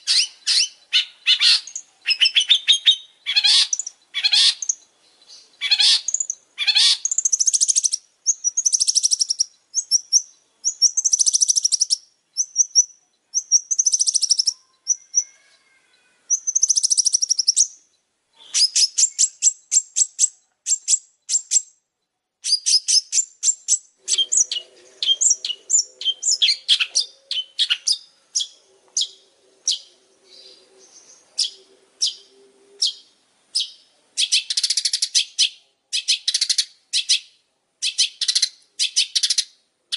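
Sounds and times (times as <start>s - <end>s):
bird song chattering notes: 0.0s - 15.4s, 16.3s - 39.6s.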